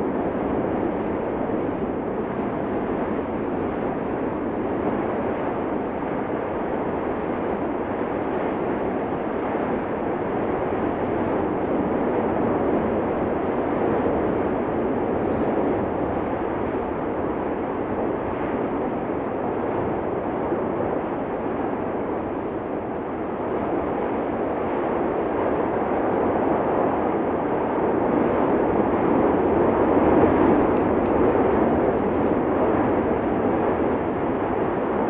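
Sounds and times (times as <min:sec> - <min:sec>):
volcanic eruption roaring: 0:00.0 - 0:35.0.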